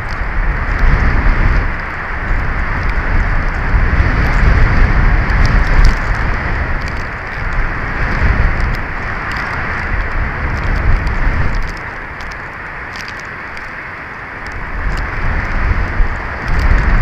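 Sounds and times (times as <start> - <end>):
faint ticks: 0.0 - 17.0
wind buffeting microphone: 0.0 - 17.0.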